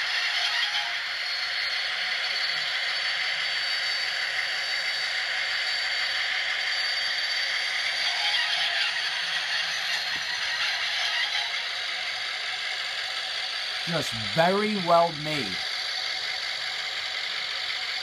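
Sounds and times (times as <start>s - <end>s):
model locomotive running: 0.0s - 14.3s, 15.1s - 18.0s.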